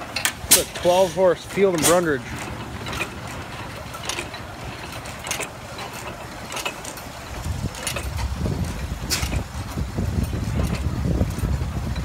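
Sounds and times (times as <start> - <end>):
stationary gas engine rumbling: 0.0 - 12.0.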